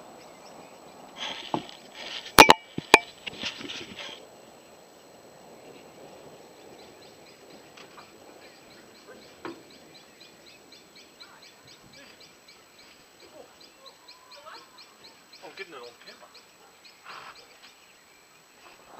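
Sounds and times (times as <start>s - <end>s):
cricket chirping: 0.0s - 18.9s.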